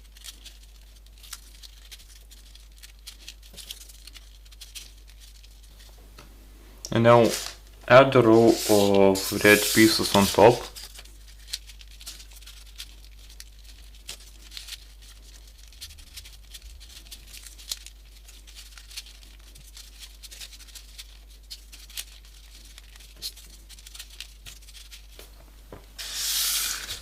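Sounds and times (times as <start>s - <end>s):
paper rustling and clicking: 0.0s - 5.9s, 8.3s - 27.0s.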